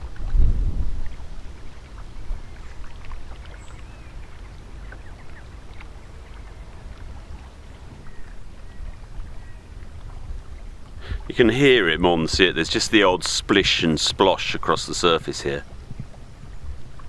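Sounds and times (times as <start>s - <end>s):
low wind rumble: 0.0s - 17.0s
water lapping around boat: 0.0s - 17.0s.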